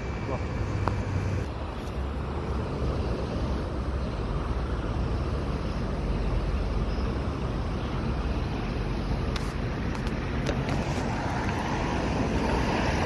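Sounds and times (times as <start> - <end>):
heavy motorway traffic: 0.0 - 13.0
wind rumbling on microphone: 0.0 - 13.0.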